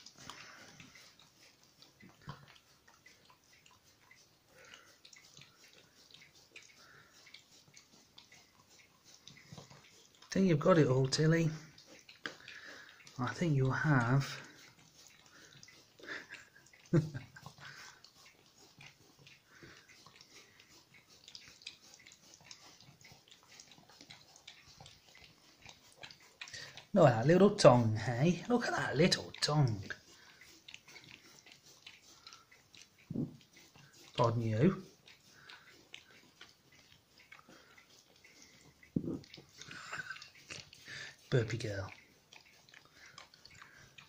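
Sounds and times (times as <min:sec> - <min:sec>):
dog licking plastic board: 0:00.0 - 0:44.0.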